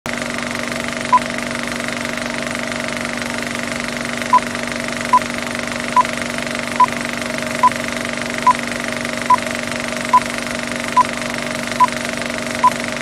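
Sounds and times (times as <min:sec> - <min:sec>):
film projector clatter: 0:00.1 - 0:13.0.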